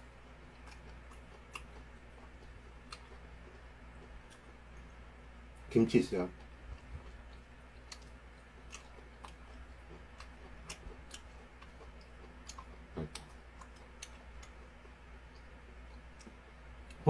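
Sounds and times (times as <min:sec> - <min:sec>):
quiet chewing: 0:00.0 - 0:05.7, 0:06.3 - 0:17.0.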